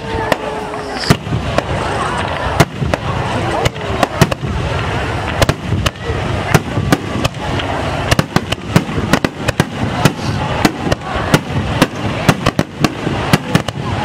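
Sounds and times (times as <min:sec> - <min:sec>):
firework shells bursting: 0:00.0 - 0:14.0
steady rushing noise: 0:00.0 - 0:14.0.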